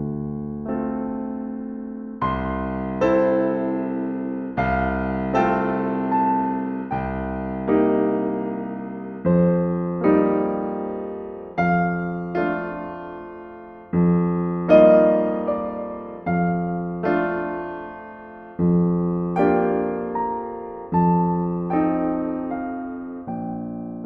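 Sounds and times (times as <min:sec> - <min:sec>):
slow solo piano chords: 0:00.0 - 0:24.0.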